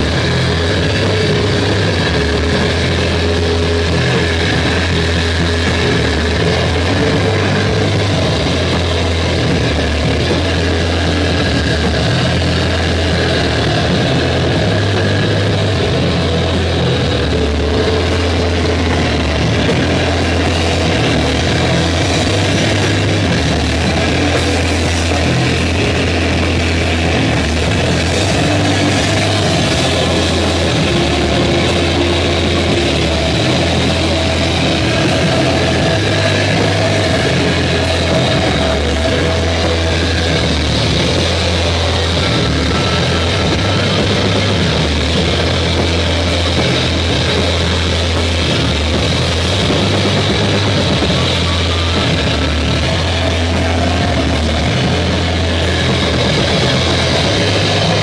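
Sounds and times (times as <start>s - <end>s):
electric guitar: 0.0s - 58.0s
low hum: 0.0s - 58.0s.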